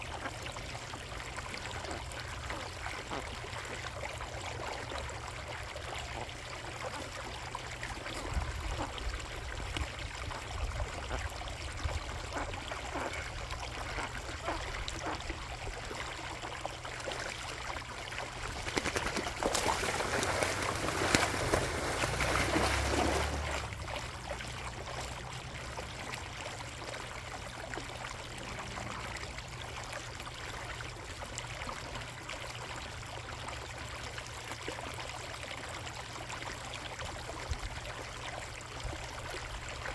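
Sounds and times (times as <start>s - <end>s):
pond water trickling: 0.0s - 39.9s.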